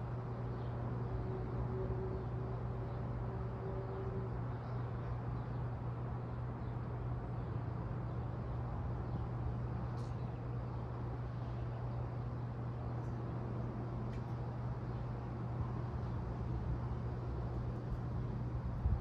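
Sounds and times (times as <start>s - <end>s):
outdoor background rumble: 0.0s - 19.0s.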